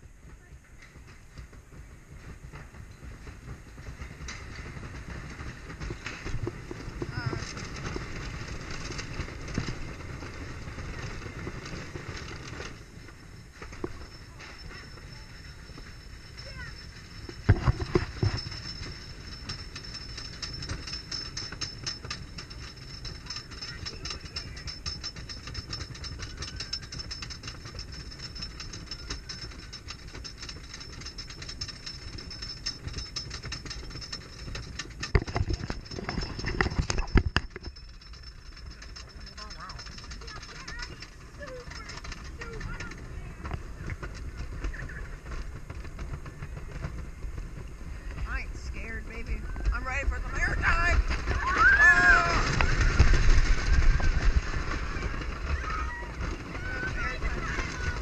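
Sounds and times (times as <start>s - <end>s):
roller coaster clattering on wooden track: 0.0s - 58.0s.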